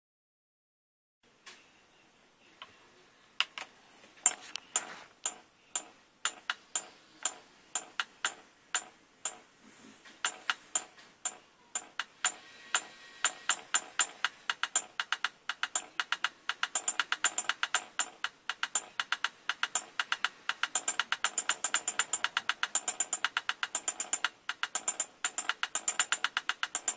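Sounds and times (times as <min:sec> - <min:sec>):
toy clock metallic clicks: 0:04.3 - 0:09.4, 0:10.2 - 0:26.9.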